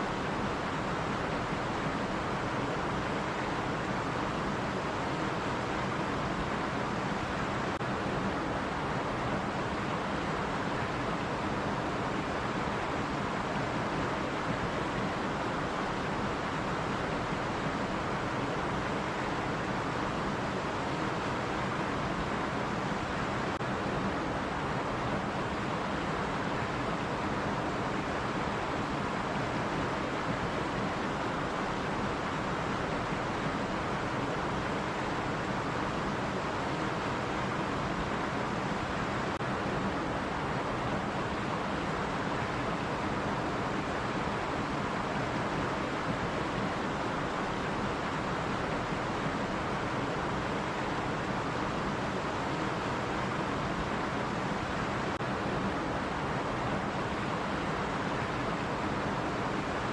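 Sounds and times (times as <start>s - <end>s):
stream water over rocks: 0.0s - 59.9s.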